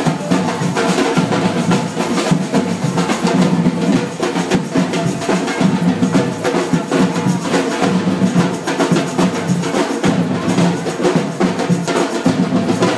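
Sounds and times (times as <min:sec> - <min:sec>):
fast percussion rattle: 0:00.0 - 0:12.9.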